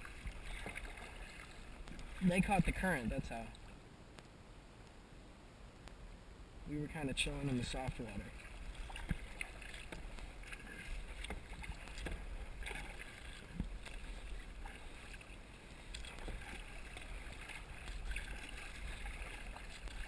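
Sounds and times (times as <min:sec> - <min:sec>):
water lapping and splashing: 0:00.0 - 0:03.8, 0:06.8 - 0:20.0
low steady rumble: 0:00.0 - 0:20.0.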